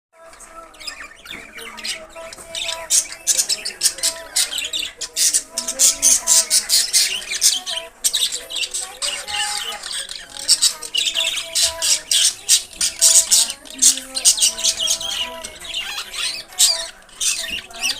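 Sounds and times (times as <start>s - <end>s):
budgerigars chirping and squawking: 0.2s - 17.9s.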